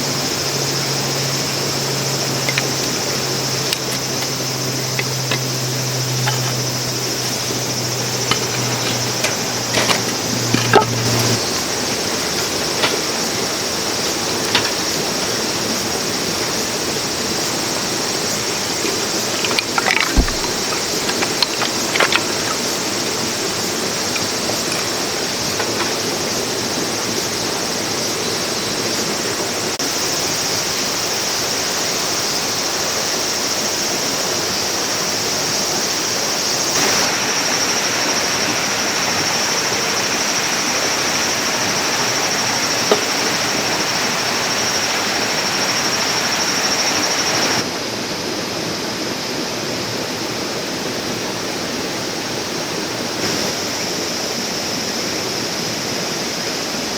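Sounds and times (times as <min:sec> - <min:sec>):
stream rushing over rocks: 0:00.0 - 0:29.8, 0:35.5 - 0:56.9.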